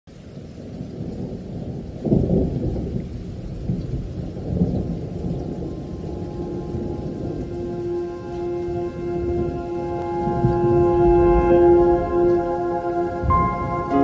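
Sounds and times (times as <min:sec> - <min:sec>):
rain: 0:00.1 - 0:14.0
rolling thunder: 0:00.3 - 0:14.0.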